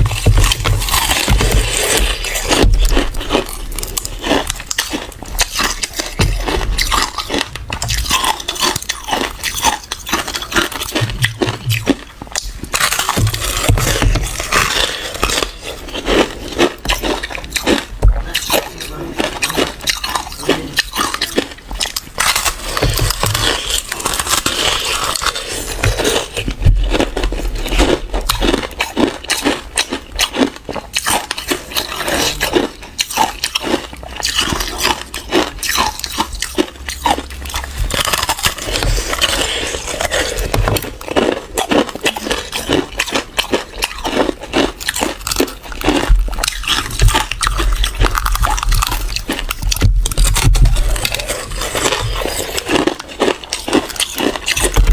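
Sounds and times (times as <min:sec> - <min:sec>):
person chewing crunchy ice: 0:00.0 - 0:54.9.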